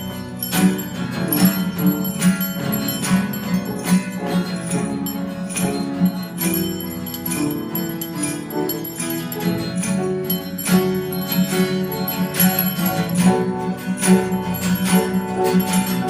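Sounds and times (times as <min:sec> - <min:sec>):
instrumental music with bells: 0:00.0 - 0:16.0.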